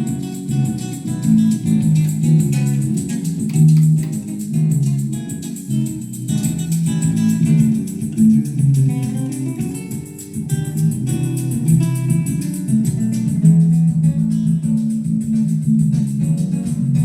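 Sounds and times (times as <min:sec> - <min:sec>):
guitar music over loudspeakers: 0:00.0 - 0:17.0.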